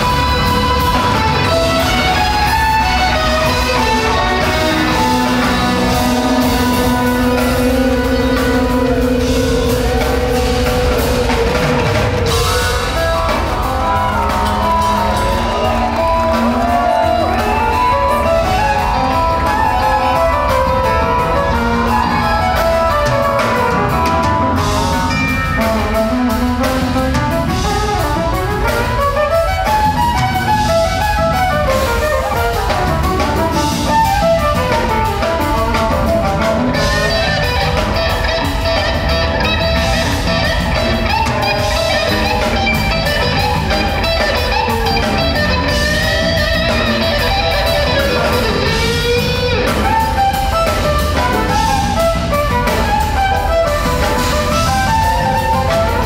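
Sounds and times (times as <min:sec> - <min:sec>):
fast electric guitar runs: 0:00.0 - 0:56.0
jazz-rock band playing: 0:00.0 - 0:56.0.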